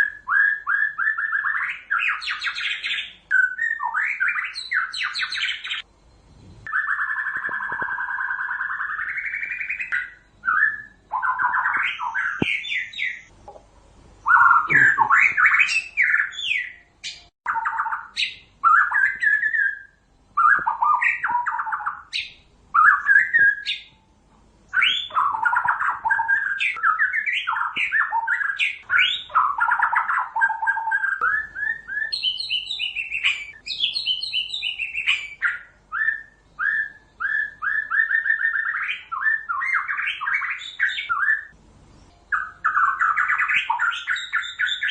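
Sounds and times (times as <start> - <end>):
bird singing whistled phrases: 0.0 - 5.9, 6.7 - 13.3, 14.2 - 24.0, 24.7 - 41.6, 42.2 - 44.9.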